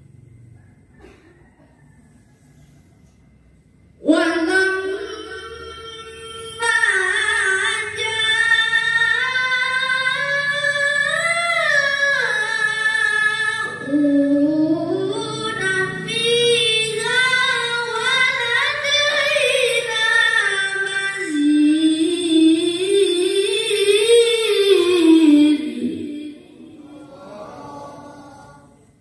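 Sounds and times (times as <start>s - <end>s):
boy reciting melodically: 4.0s - 29.0s.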